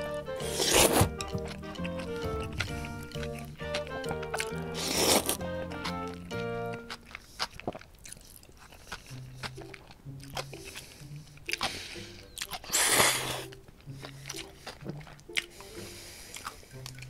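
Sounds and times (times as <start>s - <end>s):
slurping and chewing noodles: 0.0s - 17.0s
wet mouth clicks: 0.5s - 17.0s.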